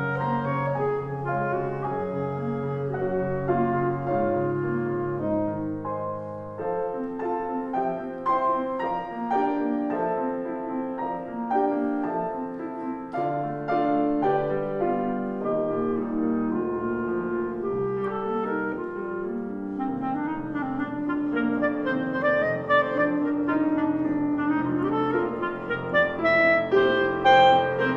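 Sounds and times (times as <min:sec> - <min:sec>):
clarinet: 0:00.0 - 0:27.9
piano: 0:00.0 - 0:27.9.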